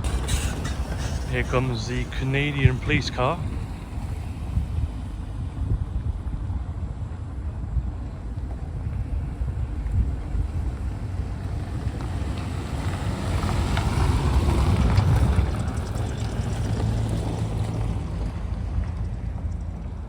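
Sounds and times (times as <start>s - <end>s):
car engine passing by: 0.0s - 7.1s, 9.5s - 19.6s
wind buffeting microphone: 0.0s - 20.0s.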